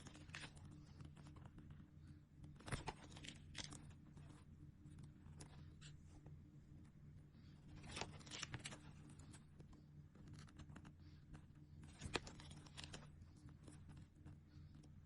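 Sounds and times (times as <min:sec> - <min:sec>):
sticker sheets rustling: 0:00.0 - 0:06.3, 0:07.4 - 0:14.9
steady low hum: 0:00.0 - 0:15.0.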